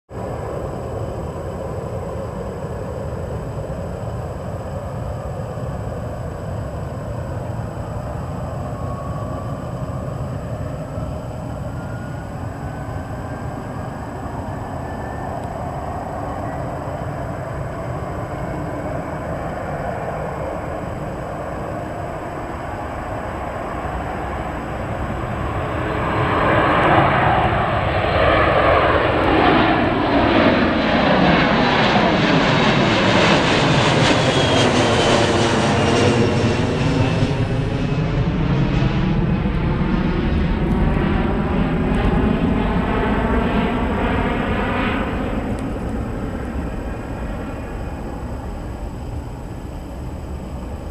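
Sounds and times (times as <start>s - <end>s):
jet engines at takeoff power: 0.1s - 50.9s
faint rising whine: 0.2s - 31.6s, 33.4s - 50.9s.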